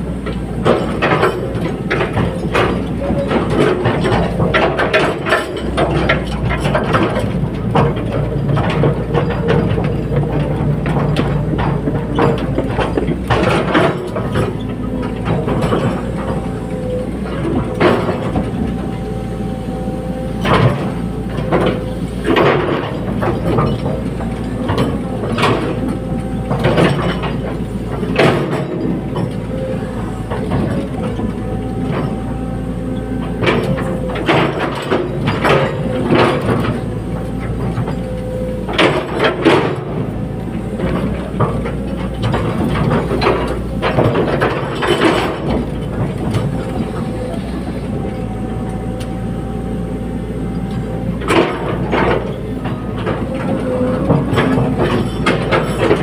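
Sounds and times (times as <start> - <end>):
diesel engine running: 0.0 - 56.0
metallic clanks and knocks: 0.1 - 56.0.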